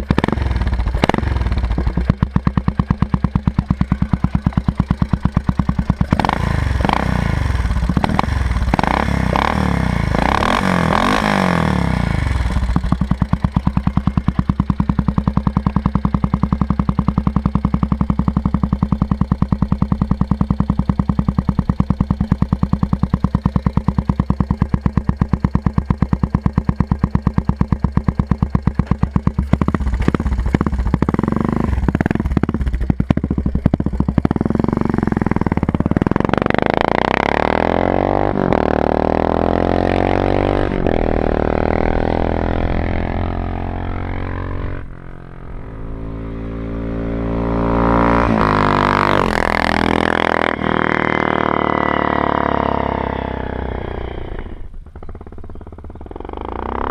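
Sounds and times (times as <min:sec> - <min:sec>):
motorcycle engine: 0:00.0 - 0:56.9.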